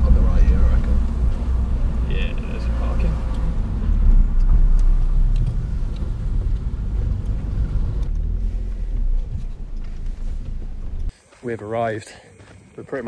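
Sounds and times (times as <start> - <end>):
car engine rumbling: 0.0 - 11.1.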